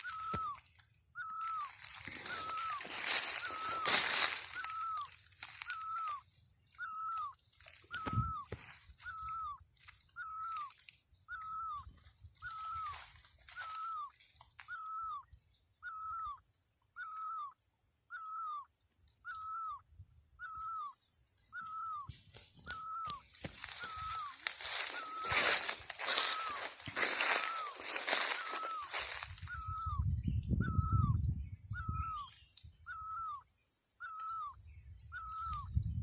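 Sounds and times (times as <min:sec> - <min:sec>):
bird call: 0:00.0 - 0:16.4, 0:17.0 - 0:19.8, 0:20.4 - 0:31.2, 0:31.8 - 0:33.4, 0:34.0 - 0:35.8.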